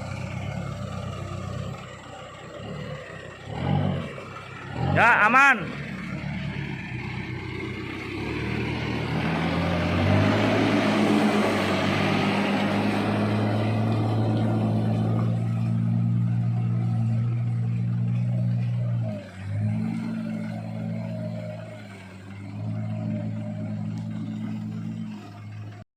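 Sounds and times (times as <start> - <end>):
heavy diesel engine revving: 0.0 - 25.8.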